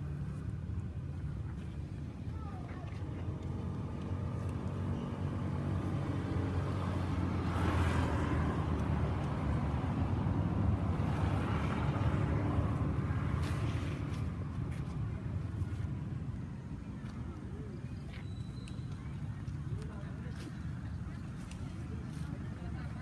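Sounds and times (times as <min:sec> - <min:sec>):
road noise of passing traffic: 0:00.0 - 0:23.0.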